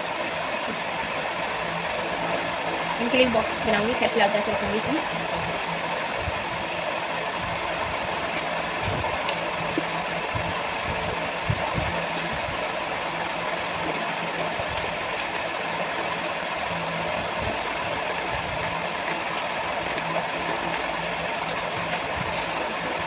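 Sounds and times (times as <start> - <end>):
machine hum with low drone: 0.0 - 23.0.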